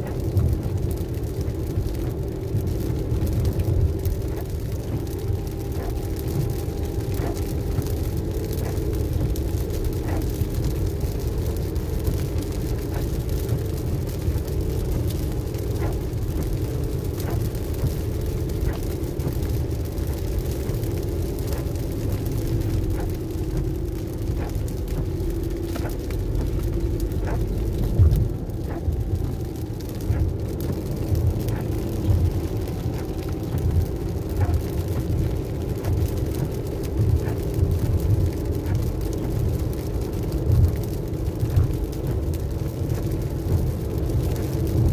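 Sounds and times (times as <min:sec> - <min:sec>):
faint ticks: 0:00.0 - 0:39.8
car road noise rumble: 0:00.0 - 0:44.9
engine and tyre drone: 0:00.0 - 0:44.9.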